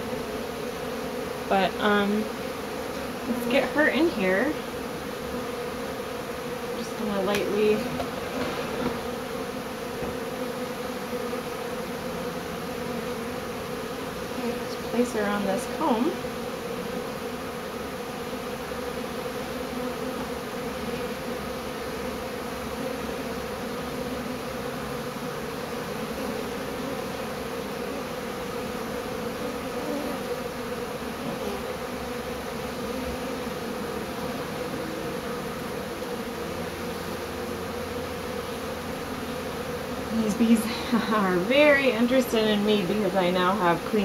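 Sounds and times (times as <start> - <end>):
bee swarm buzzing: 0.0 - 44.0.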